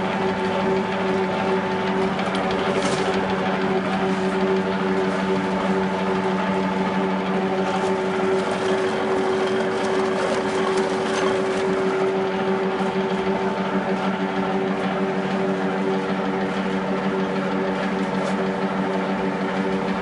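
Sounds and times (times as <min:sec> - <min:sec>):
oil press machine hum: 0:00.0 - 0:20.0.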